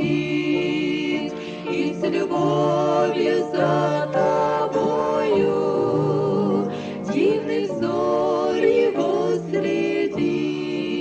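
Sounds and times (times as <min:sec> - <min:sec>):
voices singing a hymn: 0:00.0 - 0:11.0.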